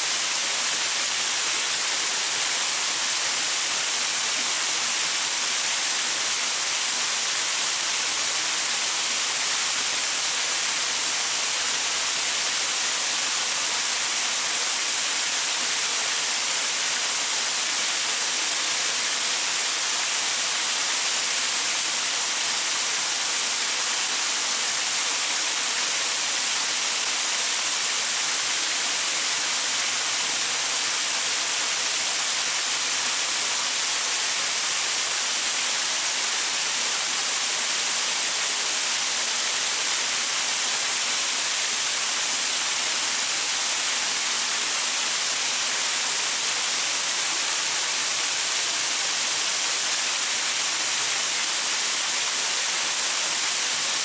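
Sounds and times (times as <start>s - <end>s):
waterfall splashing over rocks: 0.0s - 54.0s.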